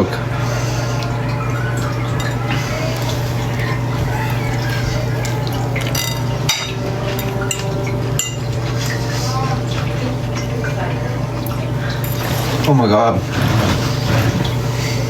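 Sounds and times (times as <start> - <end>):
faint background voices: 0.0 - 15.0
low room hum: 0.0 - 15.0.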